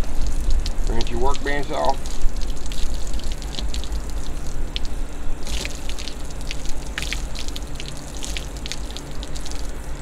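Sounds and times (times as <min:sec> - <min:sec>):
hose spray splashing on wood: 0:00.0 - 0:09.8.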